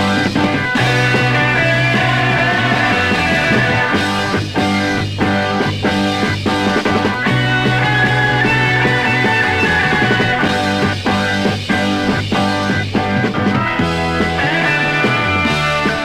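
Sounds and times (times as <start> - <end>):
bass and drums: 0.0 - 16.0
electric guitar: 0.0 - 16.0.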